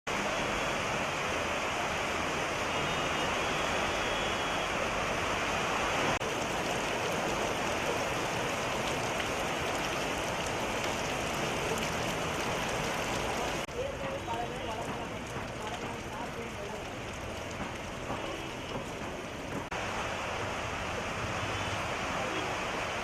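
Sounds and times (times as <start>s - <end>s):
rain falling: 0.1s - 23.0s.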